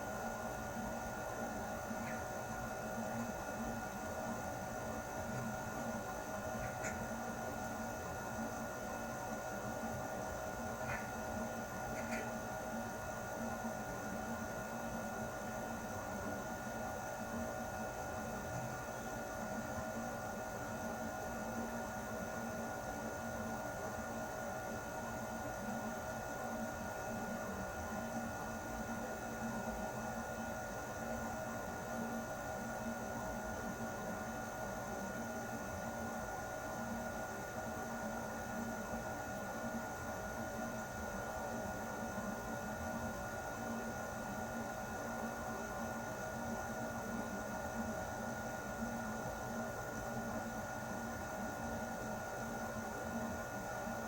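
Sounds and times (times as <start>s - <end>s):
air conditioner running: 0.0s - 54.0s.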